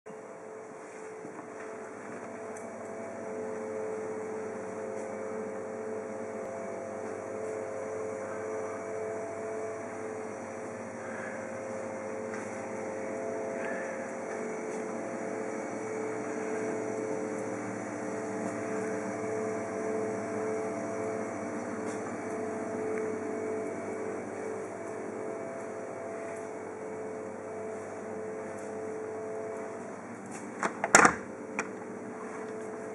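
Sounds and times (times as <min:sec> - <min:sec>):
machine hum: 0:00.1 - 0:32.9.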